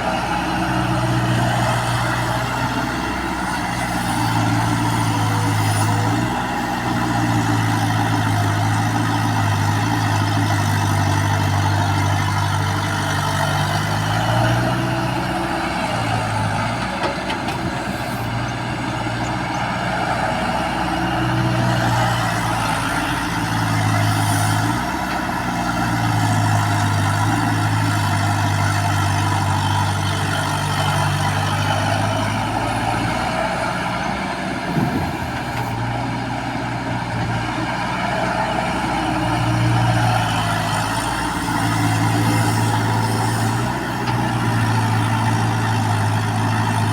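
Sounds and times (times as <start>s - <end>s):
backhoe diesel engine under load: 0.0s - 46.9s.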